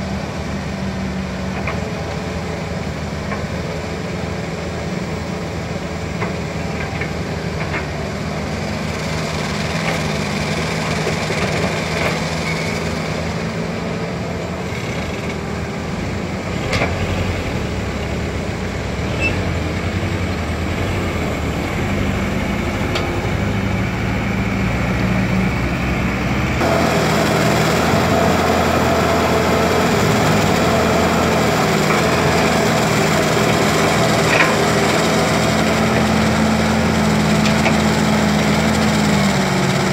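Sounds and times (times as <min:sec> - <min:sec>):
diesel excavator engine: 0:00.0 - 0:39.9.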